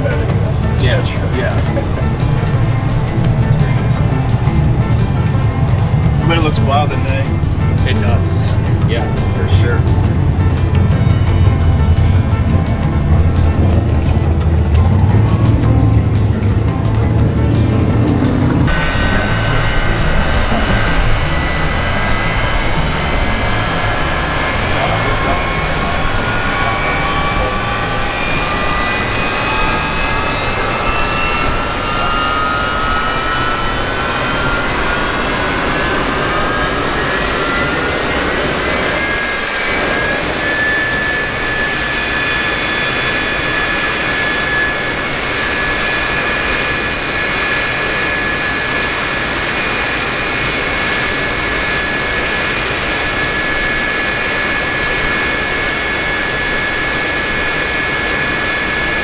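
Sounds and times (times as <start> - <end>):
steady rush of noise: 0.0 - 59.0
turbojet engine whine: 0.0 - 59.0.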